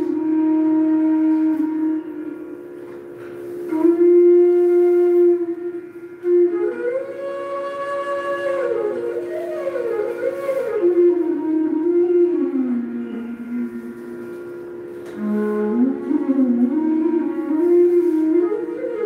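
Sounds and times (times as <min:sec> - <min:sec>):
flute melody: 0:00.0 - 0:19.0
steady drone: 0:00.0 - 0:19.0.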